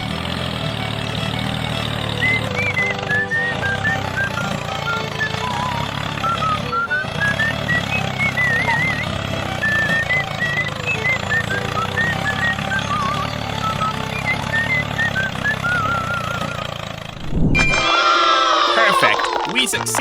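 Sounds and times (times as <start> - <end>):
vehicle engine rumbling: 0.0 - 20.0
high wavering chirps: 2.2 - 19.7.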